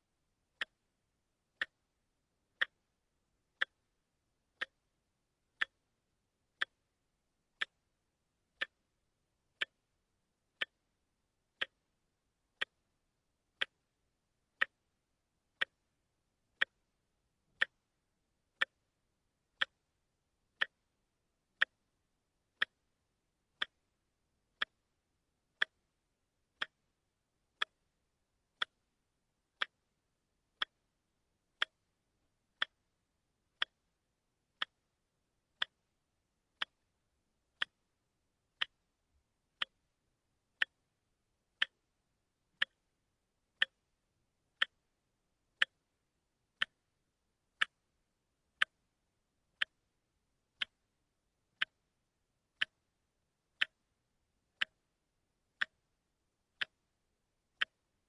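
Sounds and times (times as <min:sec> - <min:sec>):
watch ticking: 0:00.5 - 0:00.9, 0:01.5 - 0:05.9, 0:06.5 - 0:46.0, 0:46.6 - 0:52.0, 0:52.6 - 0:53.0, 0:53.6 - 0:53.9, 0:54.5 - 0:54.9, 0:55.5 - 0:57.9.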